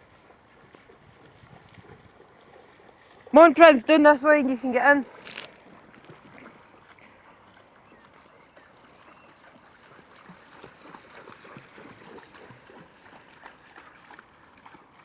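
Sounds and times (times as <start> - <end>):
dogs splashing through water: 0.0 - 15.0.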